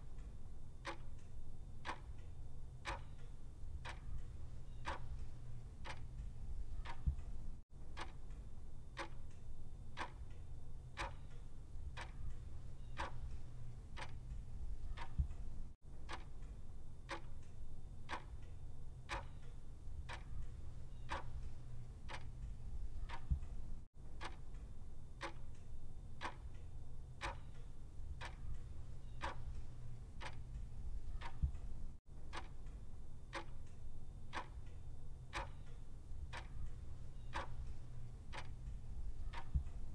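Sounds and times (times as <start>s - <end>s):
clock ticking: 0.0s - 8.4s, 9.0s - 9.4s, 10.0s - 10.4s, 11.0s - 18.5s, 19.1s - 25.6s, 26.2s - 26.6s, 27.2s - 39.9s
low steady hum: 0.0s - 39.9s.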